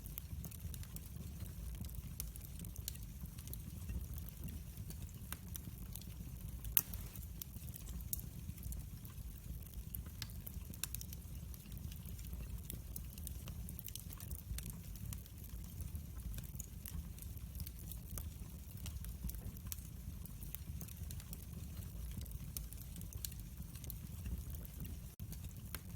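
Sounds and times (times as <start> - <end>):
fire crackling and popping: 0.0 - 25.9.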